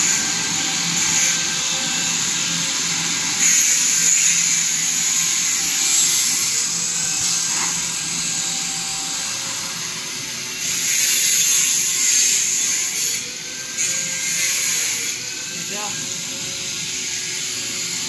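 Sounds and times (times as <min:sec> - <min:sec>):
router machine whine and hiss: 0:00.0 - 0:18.0.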